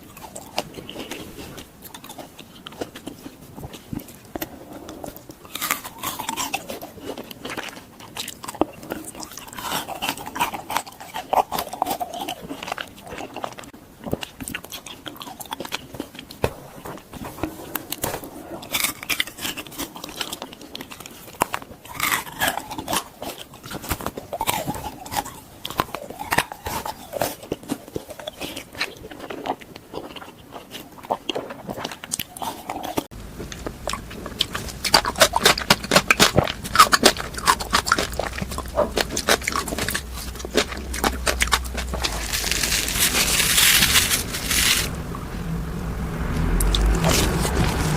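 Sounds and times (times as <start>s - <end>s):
crunchy biting and chewing: 0.0s - 45.1s, 46.2s - 47.9s.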